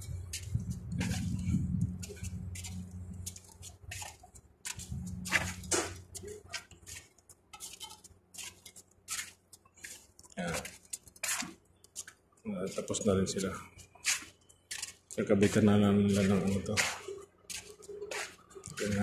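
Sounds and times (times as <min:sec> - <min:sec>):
low steady hum: 0:00.0 - 0:19.0
footsteps on concrete: 0:00.3 - 0:19.0.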